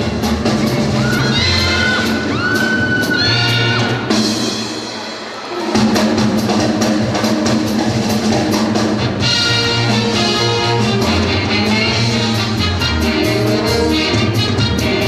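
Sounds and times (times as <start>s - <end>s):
band playing with drum kit: 0.0s - 15.0s.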